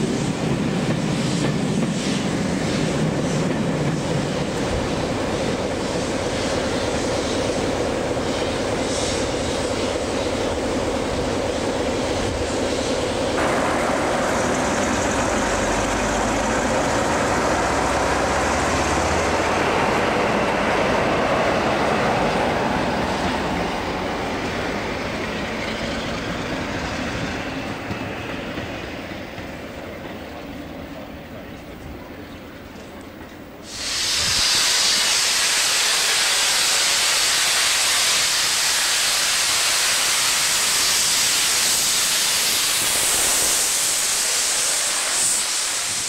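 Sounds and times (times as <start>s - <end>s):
diesel locomotive engine passing: 0.0s - 46.0s.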